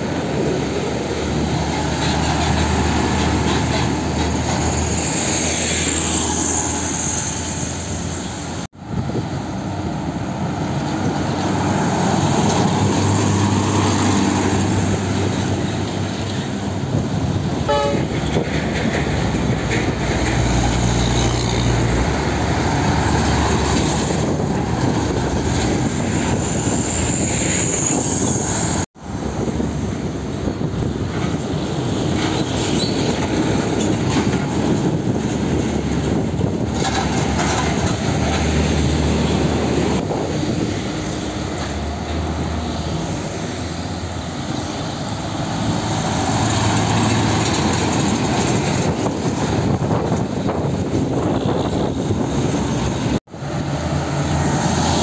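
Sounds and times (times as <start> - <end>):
heavy trucks passing: 0.0 - 55.0.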